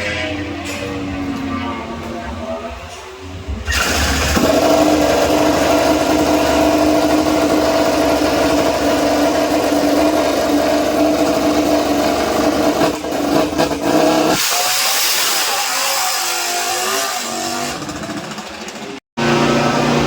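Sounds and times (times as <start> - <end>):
race motorcycle engine high revs: 3.6 - 20.0.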